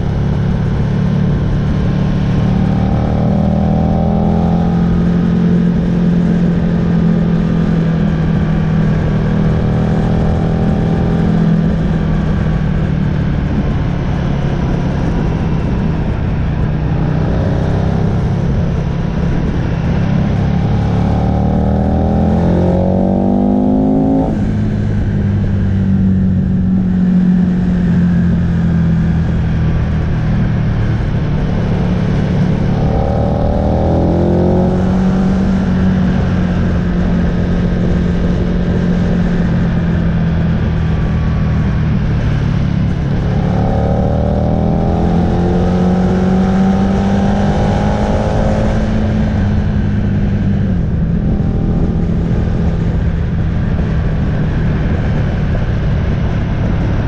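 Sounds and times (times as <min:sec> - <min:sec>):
motorcycle engine revving: 0:00.0 - 0:57.0
wind rushing over microphone: 0:00.0 - 0:57.0.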